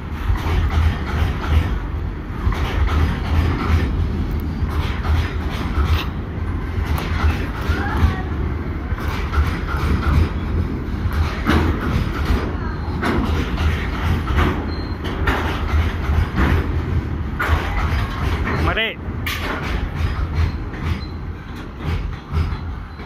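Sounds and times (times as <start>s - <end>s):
train rumbling past: 0.0s - 23.0s
wheels clacking over rail joints: 0.0s - 23.0s.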